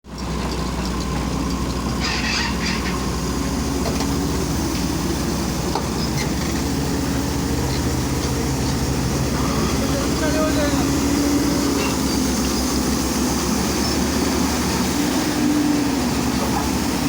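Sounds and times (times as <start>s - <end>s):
excavator diesel engine running: 0.1s - 17.0s.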